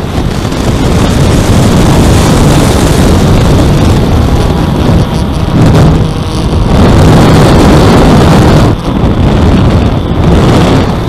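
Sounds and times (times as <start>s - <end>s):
electric propellers humming: 0.0s - 11.0s
wind buffeting microphone: 0.0s - 11.0s.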